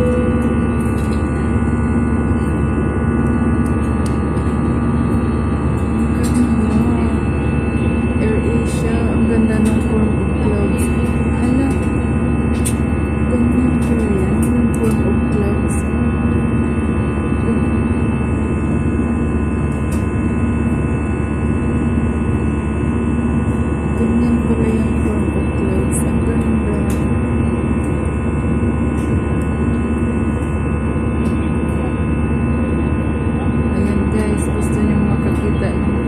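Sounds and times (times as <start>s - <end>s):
jet engine and airflow noise: 0.0s - 36.0s.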